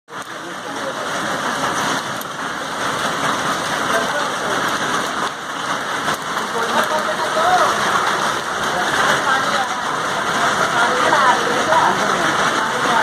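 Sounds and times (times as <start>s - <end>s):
rain falling steadily: 0.1s - 13.0s.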